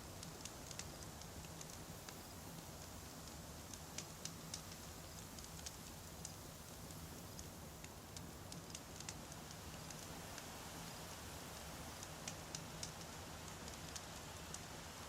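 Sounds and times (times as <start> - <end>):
campfire crackling and popping: 0.2 - 2.7, 3.3 - 11.0, 11.6 - 14.7.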